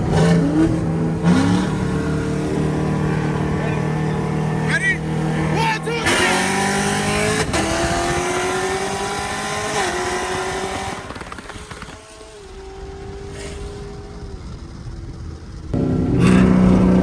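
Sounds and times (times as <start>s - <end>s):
vehicle engine accelerating: 0.0s - 17.0s.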